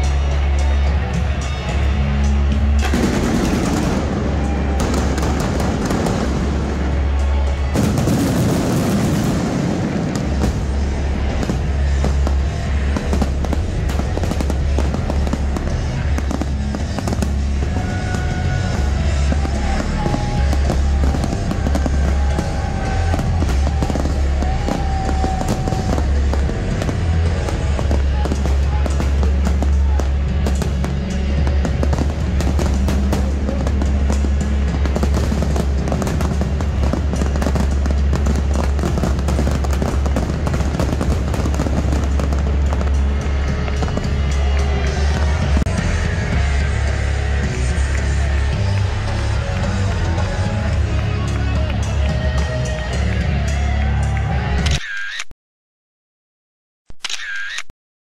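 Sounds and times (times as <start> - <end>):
music: 0.0 - 54.8
fireworks crackling and popping: 0.2 - 52.7.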